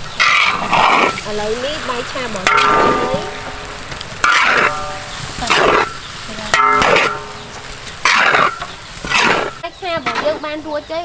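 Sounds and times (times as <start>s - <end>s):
faint sizzle: 0.0s - 11.0s
metal spatula scraping wok: 0.1s - 10.6s.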